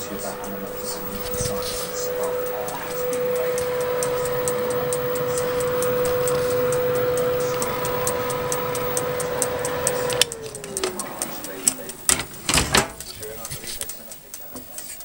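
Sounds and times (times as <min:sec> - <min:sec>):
oven motor hum: 0:00.0 - 0:15.0
rapid even ticking: 0:00.0 - 0:15.0.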